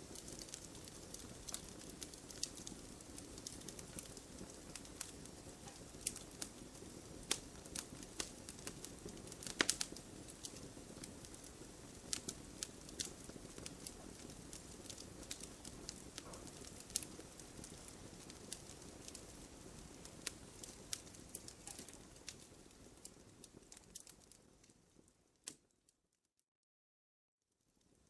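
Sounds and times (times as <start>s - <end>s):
wood fire crackling and popping: 0.0s - 25.8s.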